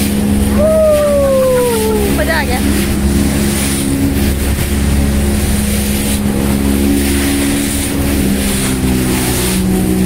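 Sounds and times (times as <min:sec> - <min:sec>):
outboard motor drone: 0:00.0 - 0:10.0
spray splashing against hull: 0:00.0 - 0:10.0.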